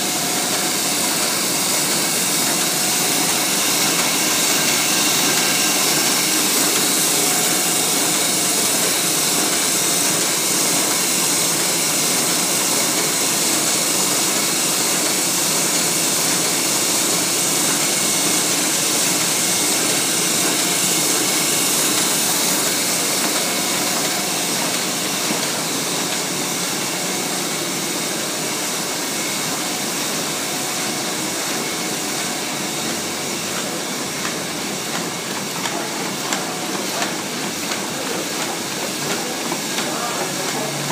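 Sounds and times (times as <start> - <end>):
printing press whirring and hissing: 0.0 - 40.9.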